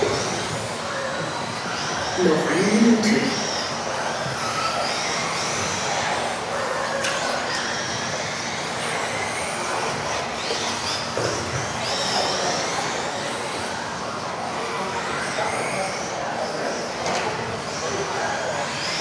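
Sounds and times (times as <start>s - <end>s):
rc car motors whining: 0.0s - 19.0s.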